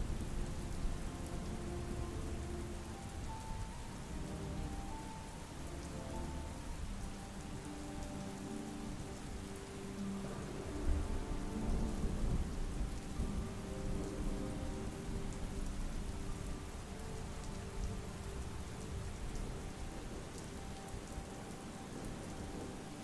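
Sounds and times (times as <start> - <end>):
ambient music held notes: 0.0 - 23.0
soft rain: 0.0 - 23.0
thunder rumble: 0.0 - 23.0.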